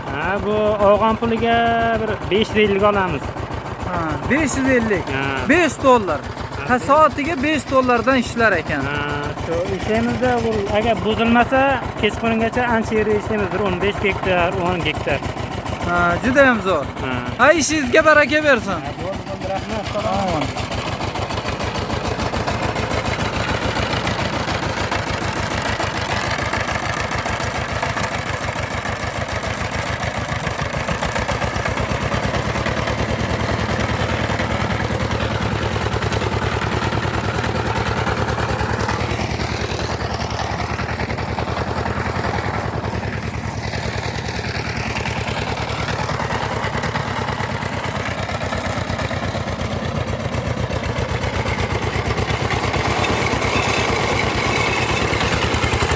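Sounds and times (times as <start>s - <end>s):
combine harvester engine running: 0.0s - 55.9s.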